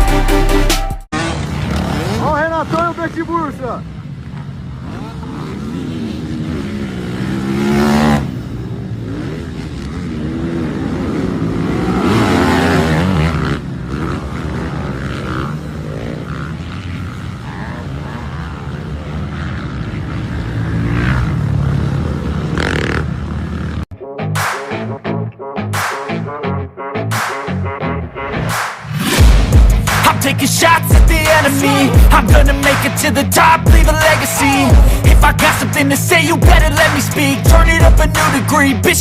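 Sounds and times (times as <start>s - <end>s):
dirt bike engines revving: 1.1s - 23.9s, 28.4s - 39.0s.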